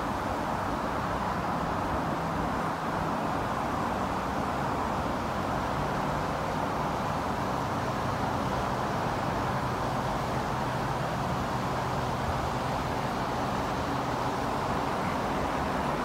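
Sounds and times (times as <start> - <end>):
highway traffic: 0.0 - 16.0.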